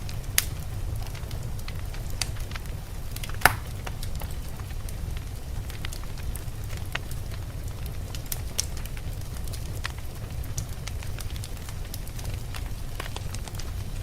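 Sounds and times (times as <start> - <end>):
fireplace crackling: 0.0 - 14.0
low rumble of wind: 0.0 - 14.0.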